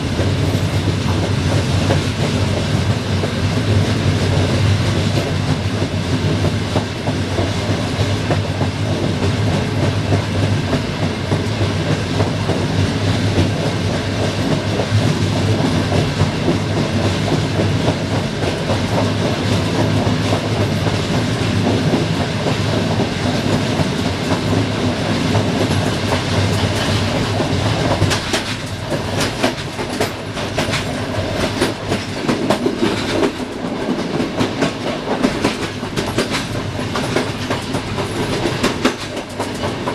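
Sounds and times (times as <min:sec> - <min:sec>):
train engine drone: 0:00.0 - 0:39.9
wheels clacking over rail joints: 0:00.0 - 0:39.9
wheel rumble on rails: 0:04.5 - 0:39.9.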